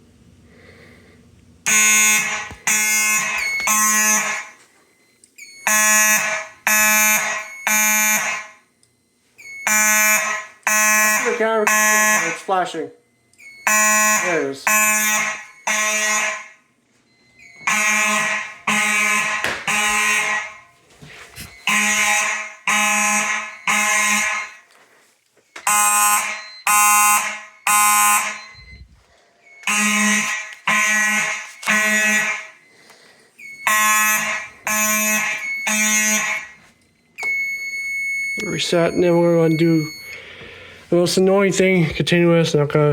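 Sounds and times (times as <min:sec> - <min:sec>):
fire alarm horns buzzing: 0:01.6 - 0:42.3.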